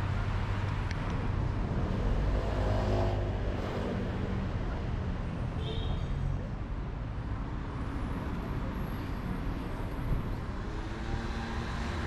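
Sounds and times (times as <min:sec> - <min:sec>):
road traffic rumbling: 0:00.0 - 0:12.0.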